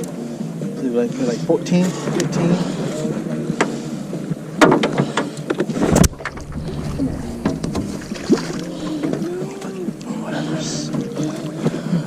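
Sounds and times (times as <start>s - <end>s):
water: 0.0s - 12.0s
wind: 1.4s - 11.8s.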